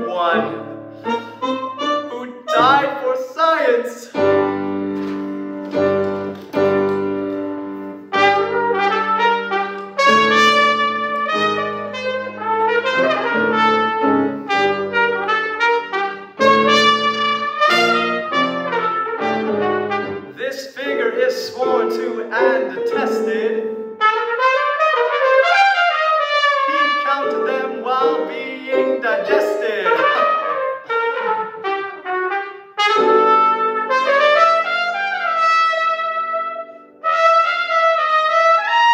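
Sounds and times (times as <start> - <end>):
piano chords: 0.0 - 38.9
trumpet melody: 0.0 - 38.9.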